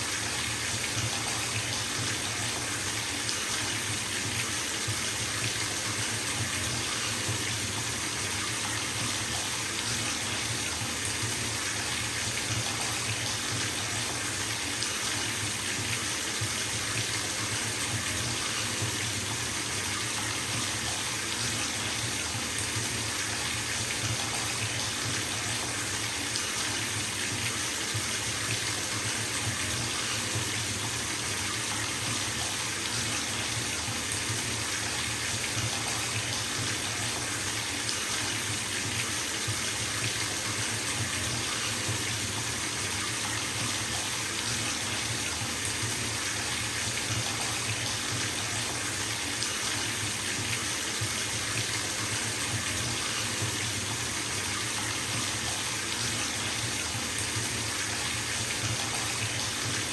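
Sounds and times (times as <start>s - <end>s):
tap water running into bathtub: 0.0s - 59.9s.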